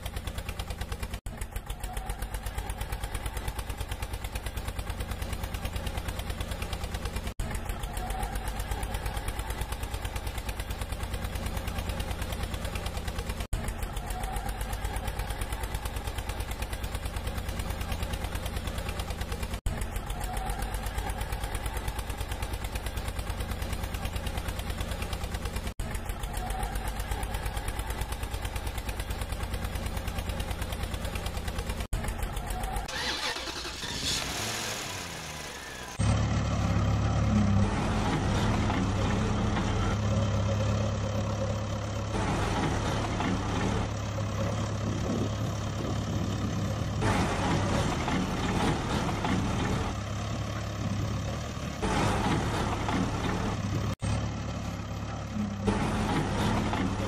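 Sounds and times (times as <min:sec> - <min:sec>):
engine puttering with low hum: 0:00.0 - 0:57.0
truck engine running: 0:00.0 - 0:57.0.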